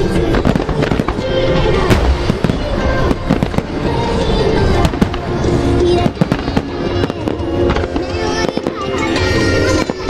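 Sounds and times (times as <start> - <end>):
fireworks bursts and crackles: 0.0 - 10.0
song through loudspeakers: 0.0 - 10.0.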